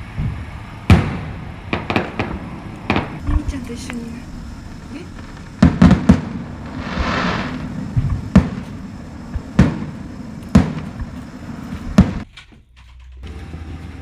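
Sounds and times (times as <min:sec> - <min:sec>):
fireworks bangs: 0:00.0 - 0:12.3
fireworks crackling hiss: 0:00.0 - 0:12.3.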